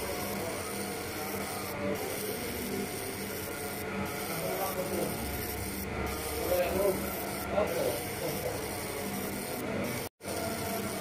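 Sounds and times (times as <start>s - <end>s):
irregular machine sounds: 0.0s - 11.0s
laser marking machine hum and hiss: 0.0s - 11.0s.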